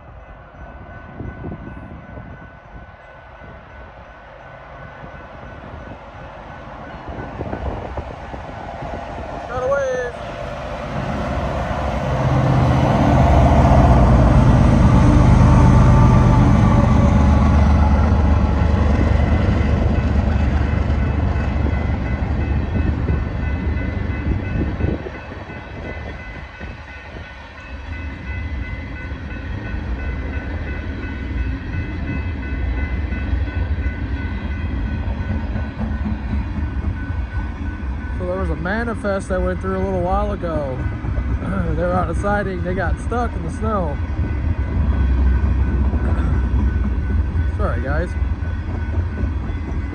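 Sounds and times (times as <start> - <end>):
diesel locomotive engines rumbling: 0.0 - 49.9
train wheels running on rails: 0.0 - 49.9.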